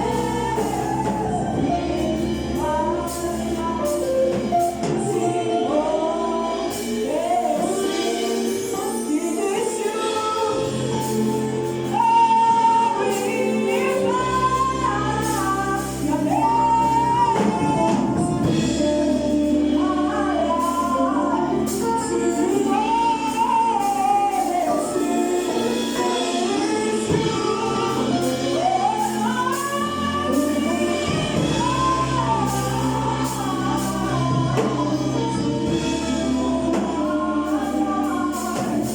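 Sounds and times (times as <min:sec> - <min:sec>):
bass line: 0:00.0 - 0:38.9
gospel choir singing: 0:00.0 - 0:38.9.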